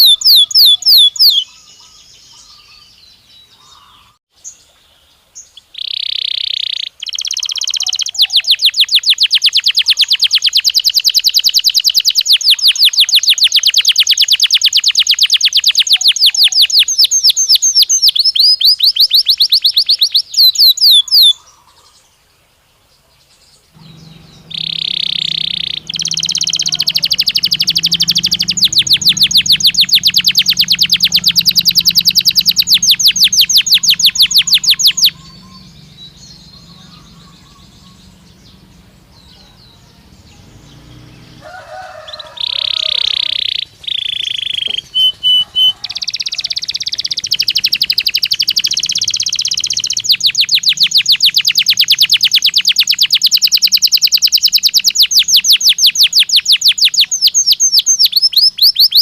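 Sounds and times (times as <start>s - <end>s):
canary singing fast trills: 0.0s - 22.1s, 23.6s - 59.0s.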